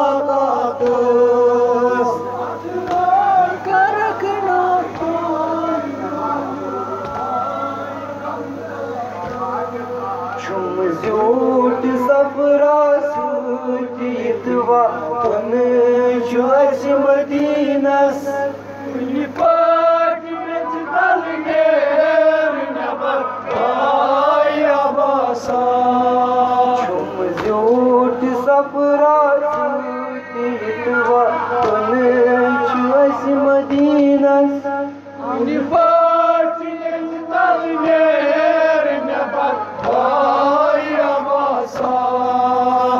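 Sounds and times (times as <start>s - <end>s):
man singing a lament: 0.0s - 42.9s
voices chanting along: 0.0s - 42.9s.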